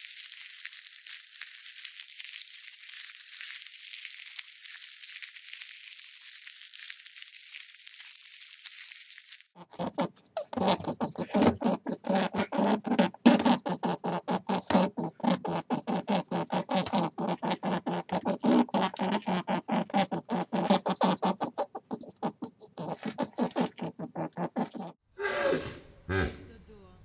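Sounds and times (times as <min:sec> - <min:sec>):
hare munching grass: 0:00.0 - 0:24.9.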